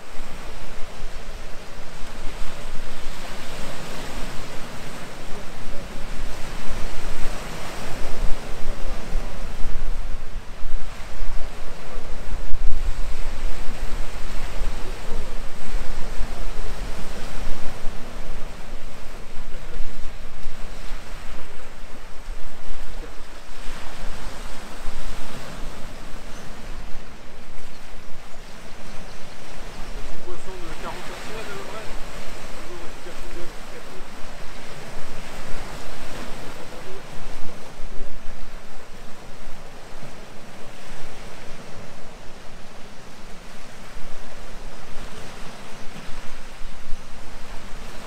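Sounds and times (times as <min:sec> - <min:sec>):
sea waves washing ashore: 0:00.0 - 0:48.0
wind buffeting microphone: 0:00.0 - 0:48.0.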